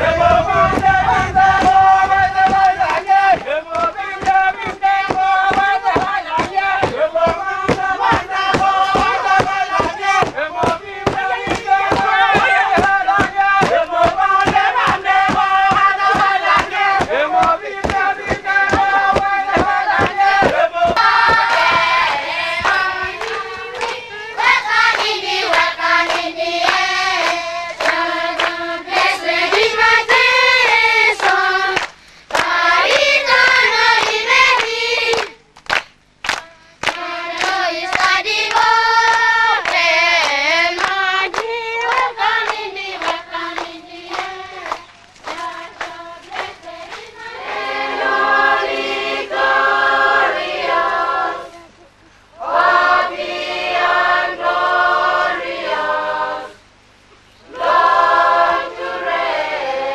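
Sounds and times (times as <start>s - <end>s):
group singing in unison: 0.0s - 35.4s, 36.3s - 56.7s, 57.4s - 59.9s
rhythmic hand-clapping: 0.0s - 51.5s.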